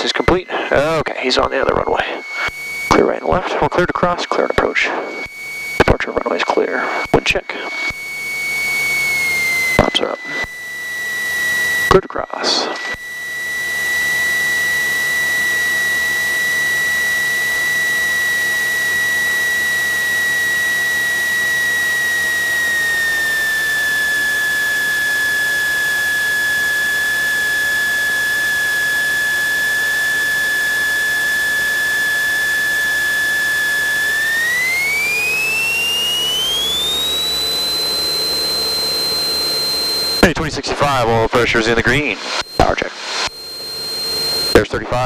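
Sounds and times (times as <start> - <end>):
high electrical whine: 0.0 - 45.0.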